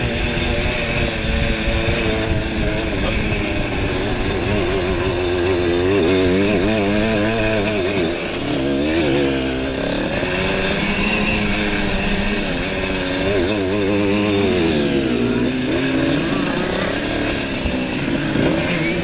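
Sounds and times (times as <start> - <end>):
two-stroke motorbike engine revving: 0.0 - 19.0.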